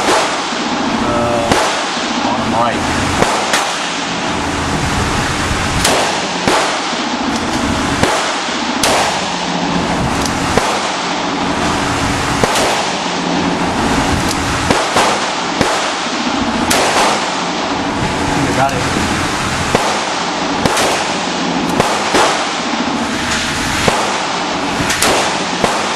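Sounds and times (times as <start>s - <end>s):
revolver gunshots: 0.0s - 25.9s
steady background hum: 0.0s - 25.9s.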